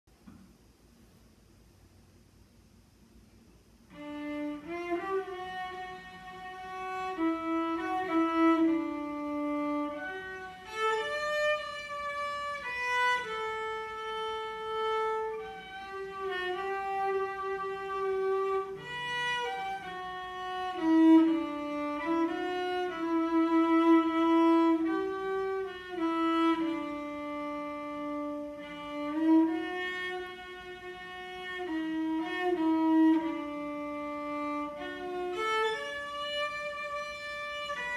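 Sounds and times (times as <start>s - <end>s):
bowed solo cello melody: 3.9s - 37.9s.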